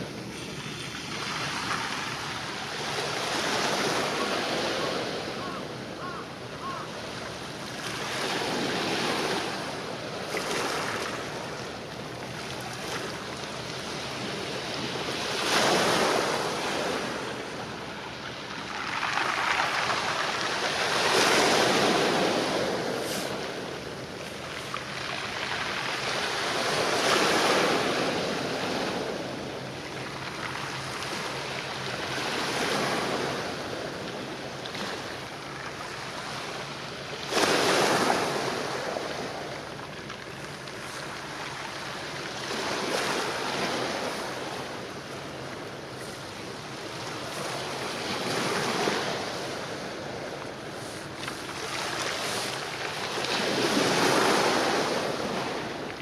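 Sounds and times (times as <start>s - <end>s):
small waves washing on shore: 0.0s - 56.0s.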